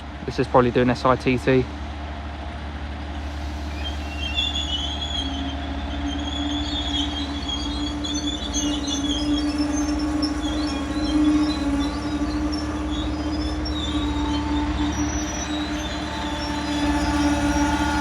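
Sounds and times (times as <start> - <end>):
diesel engine drone: 0.0 - 18.0
wheels and brakes squealing: 0.0 - 18.0.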